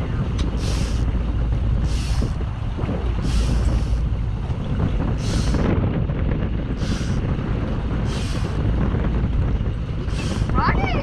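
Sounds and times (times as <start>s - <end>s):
boat engine rumble: 0.0s - 11.0s
wind buffeting microphone: 0.0s - 11.0s.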